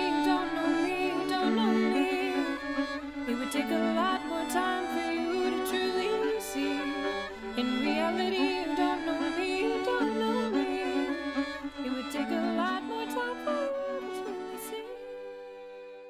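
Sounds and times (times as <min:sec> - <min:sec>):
fiddle melody: 0:00.0 - 0:16.0.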